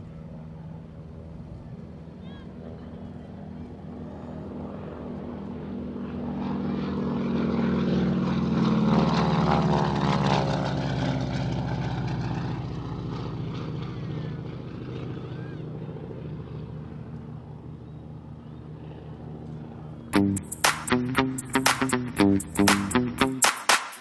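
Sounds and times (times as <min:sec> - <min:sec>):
propeller airplane flying by: 0:00.0 - 0:24.0.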